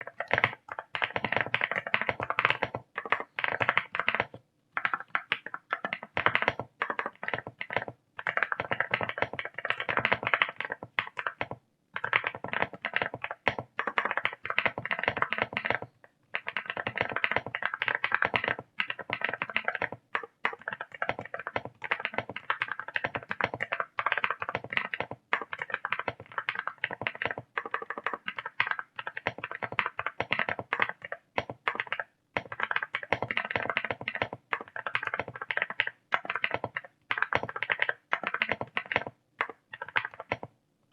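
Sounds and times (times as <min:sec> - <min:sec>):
mechanical keyboard typing: 0:00.0 - 0:40.6.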